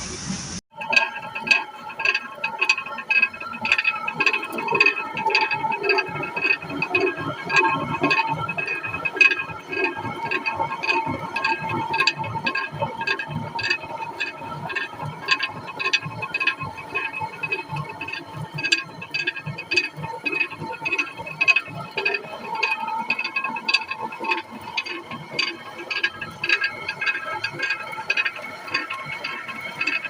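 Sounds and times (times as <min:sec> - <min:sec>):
flour mill clacking: 0:00.7 - 0:30.0.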